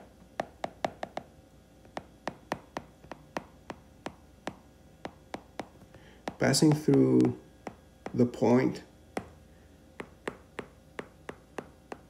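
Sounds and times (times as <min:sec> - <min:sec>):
stylus tapping on tablet screen: 0:00.0 - 0:08.3, 0:09.2 - 0:09.4, 0:10.0 - 0:12.0.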